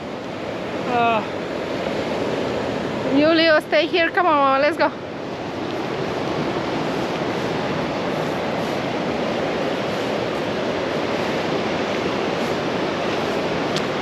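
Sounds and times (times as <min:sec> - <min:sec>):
ocean surf washing onto beach: 0:00.0 - 0:14.0.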